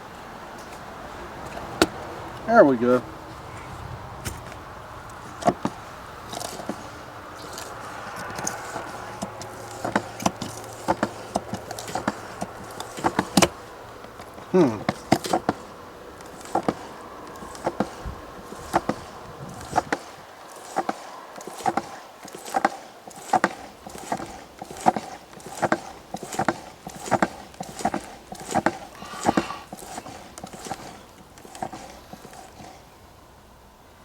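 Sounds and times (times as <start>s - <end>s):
sharp clicks and knocks: 4.2s - 32.8s.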